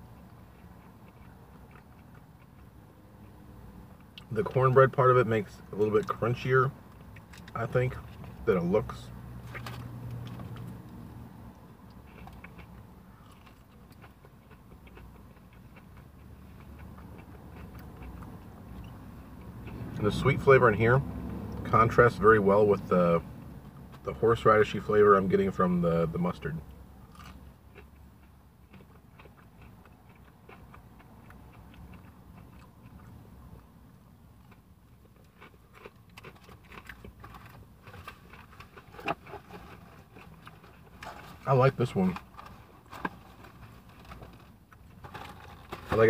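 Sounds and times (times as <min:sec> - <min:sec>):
crunching of chewing fried chicken: 0:00.0 - 0:46.0
low steady hum: 0:00.0 - 0:46.0.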